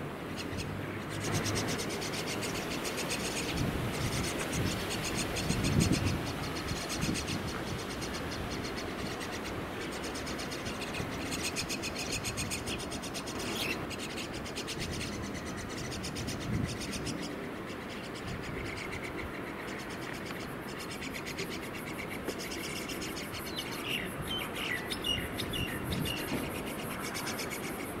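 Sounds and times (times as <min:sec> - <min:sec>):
nestlings raspy begging calls: 0:00.3 - 0:28.0
bird chirps: 0:00.4 - 0:27.9.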